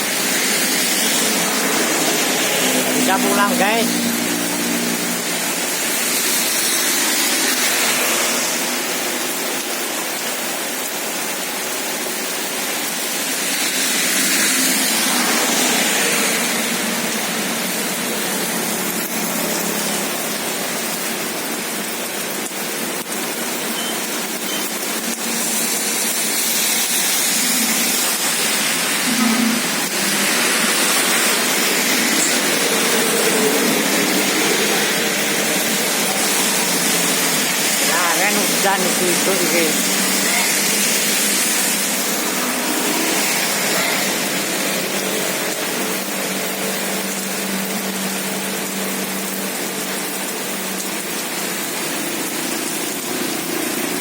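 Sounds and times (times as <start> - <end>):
heavy rain in strong wind: 0.0 - 54.0.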